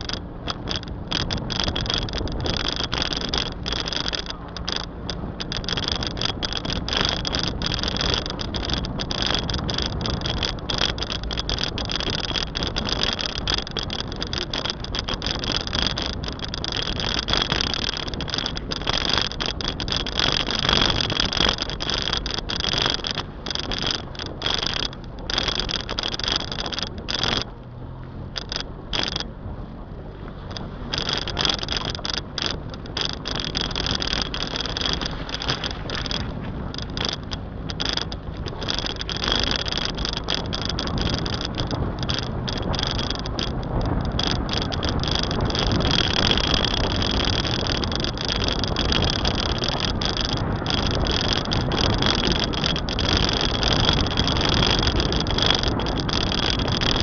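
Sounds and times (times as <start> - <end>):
car engine running: 0.0 - 57.0
wind and road noise: 0.0 - 57.0.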